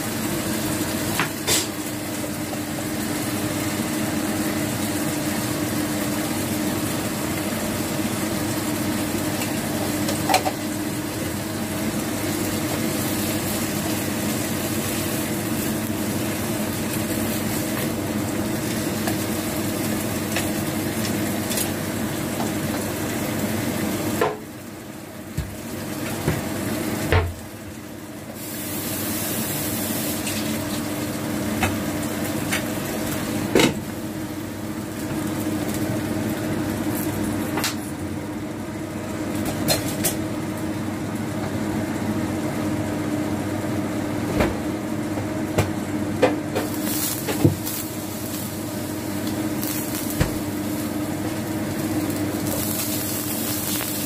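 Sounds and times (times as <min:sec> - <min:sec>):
vegetables sizzling in a pan: 0:00.0 - 0:41.3, 0:45.8 - 0:54.0.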